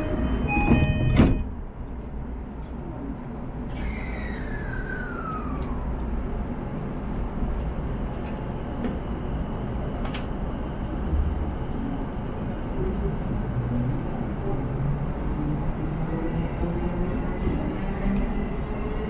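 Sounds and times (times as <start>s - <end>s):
train running gear rumble: 0.0s - 19.0s.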